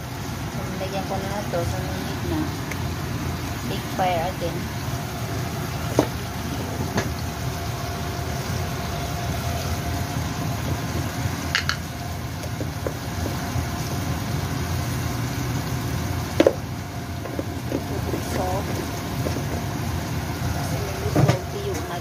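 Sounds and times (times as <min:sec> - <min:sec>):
broth bubbling in a wok: 0:00.0 - 0:22.0
gas burner rushing: 0:00.0 - 0:22.0.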